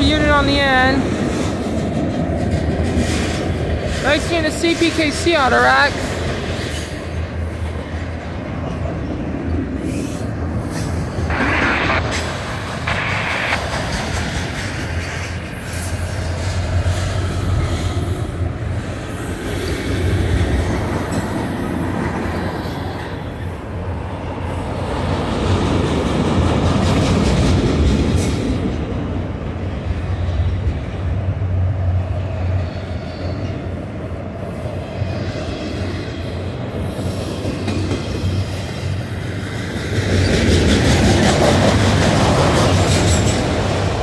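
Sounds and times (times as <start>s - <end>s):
freight cars rolling on rails: 0.0s - 44.0s.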